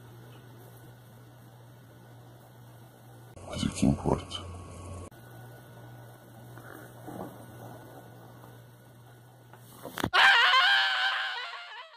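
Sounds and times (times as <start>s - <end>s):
low electrical hum: 0.0s - 11.9s.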